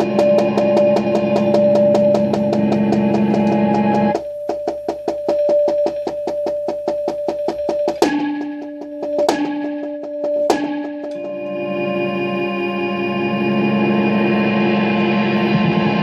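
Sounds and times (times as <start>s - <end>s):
held electronic drone tones: 0.0s - 16.0s.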